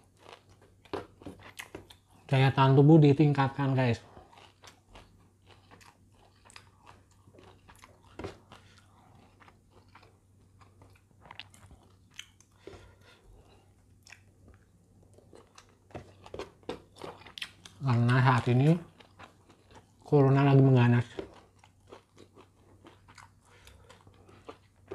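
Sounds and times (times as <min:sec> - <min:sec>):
chewing and mouth sounds: 0:00.0 - 0:02.3, 0:04.0 - 0:24.9
steady low hum: 0:00.0 - 0:24.9.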